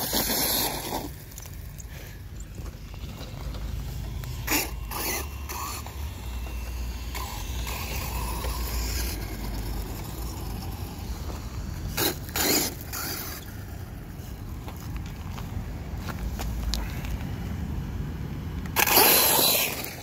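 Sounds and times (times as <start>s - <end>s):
tires crunching on gravel: 0.0s - 17.4s, 18.6s - 20.0s.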